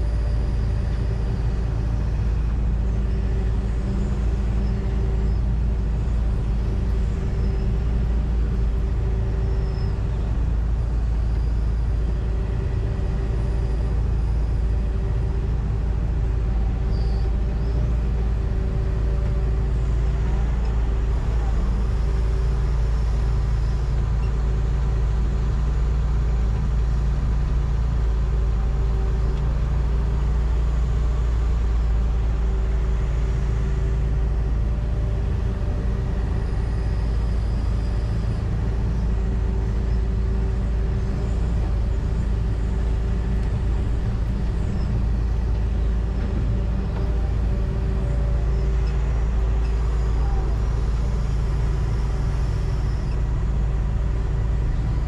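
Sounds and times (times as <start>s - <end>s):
diesel engine droning under load: 0.0s - 55.0s
faint high whine: 0.0s - 55.0s.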